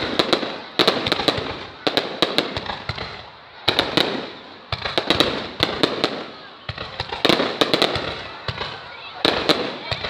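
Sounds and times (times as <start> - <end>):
fireworks cracking and popping: 0.0 - 10.0.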